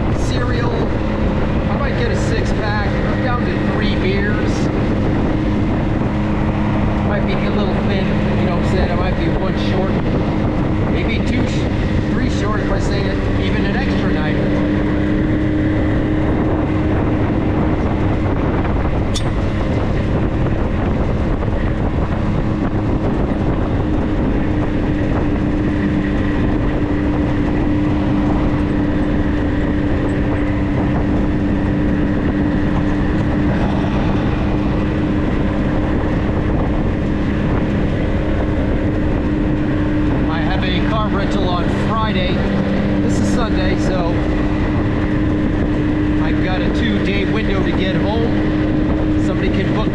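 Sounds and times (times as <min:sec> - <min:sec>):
road and wind noise: 0:00.0 - 0:49.9
vehicle engine drone: 0:00.0 - 0:49.9.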